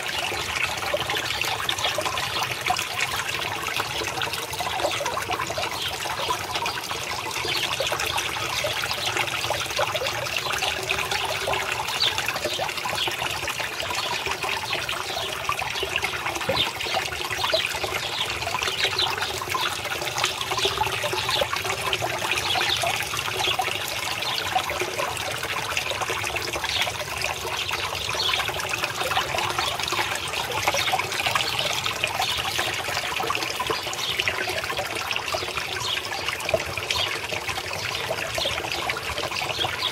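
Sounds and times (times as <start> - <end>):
water pouring into pond: 0.0 - 39.9.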